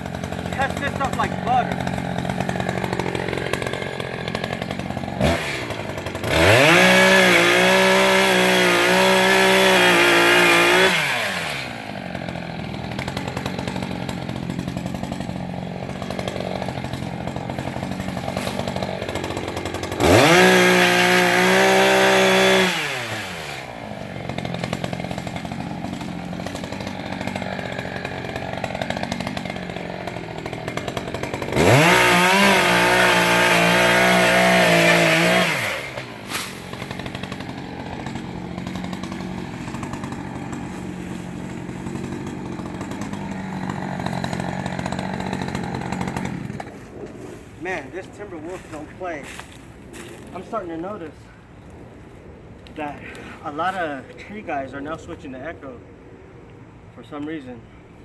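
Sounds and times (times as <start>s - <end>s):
chainsaw engine revving: 0.0s - 51.2s.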